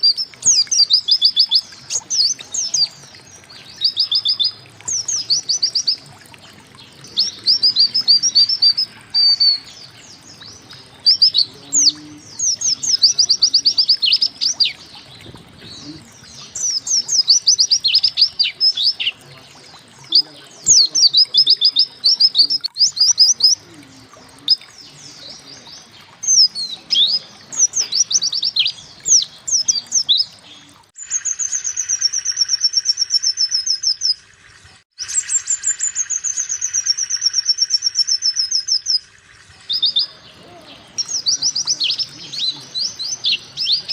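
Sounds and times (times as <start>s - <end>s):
high bird trill: 0.0s - 34.2s, 35.0s - 43.9s
bird chirping and twittering: 0.0s - 34.3s, 35.0s - 43.9s.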